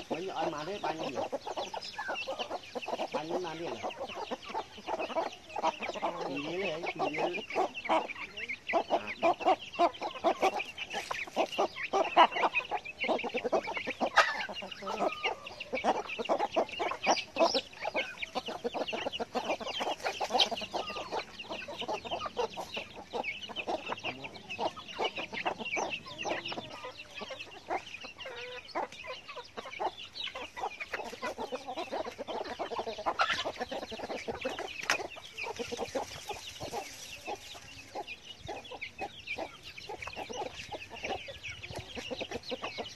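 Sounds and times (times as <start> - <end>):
chickens clucking: 0.0 - 42.9
chickens scratching soil: 0.0 - 42.9
chicks peeping: 0.0 - 42.9.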